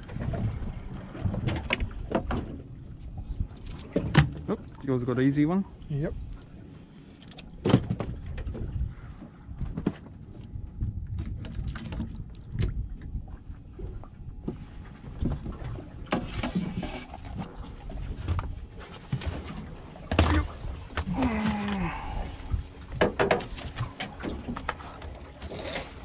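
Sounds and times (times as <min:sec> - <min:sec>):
knocks and clatter on boat deck: 0:00.0 - 0:05.2, 0:07.6 - 0:26.0
wind and water rumble: 0:00.0 - 0:26.0.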